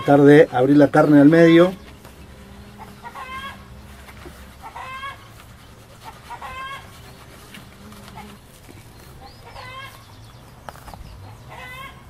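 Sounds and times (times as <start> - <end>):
chicken calling: 0.0 - 10.1, 11.2 - 12.0.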